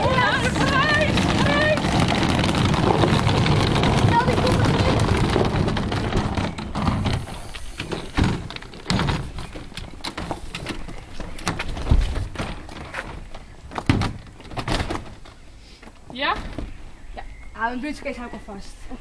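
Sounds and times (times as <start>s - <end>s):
suitcases knocking and thumping: 0.0s - 16.8s.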